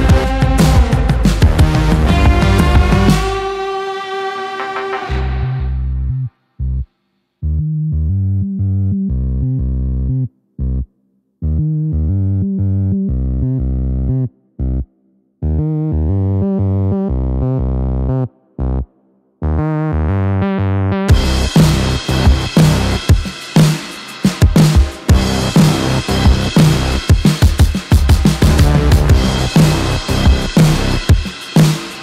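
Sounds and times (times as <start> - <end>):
electronic music with synth bass: 0.0 - 3.8, 4.4 - 6.8, 11.4 - 14.8, 15.4 - 32.0.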